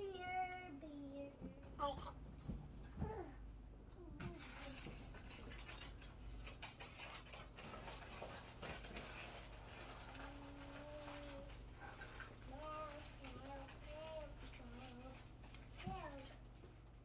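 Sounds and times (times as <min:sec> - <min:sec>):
soft held hum: 0:00.0 - 0:17.0.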